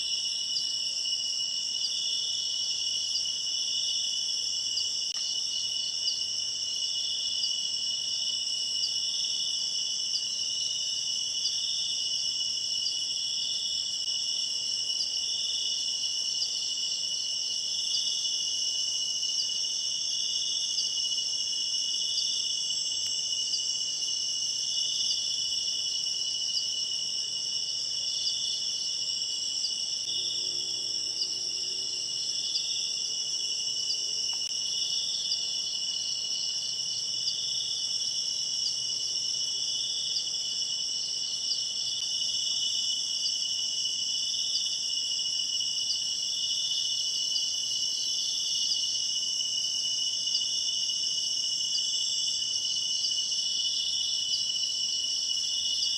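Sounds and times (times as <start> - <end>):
crickets and insects chirping: 0.0 - 55.9.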